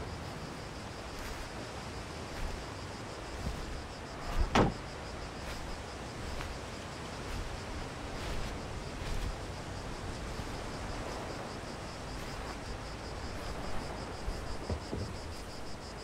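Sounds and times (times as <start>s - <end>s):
faint insect buzz: 0.0s - 16.0s
steady outdoor hiss: 0.0s - 16.0s.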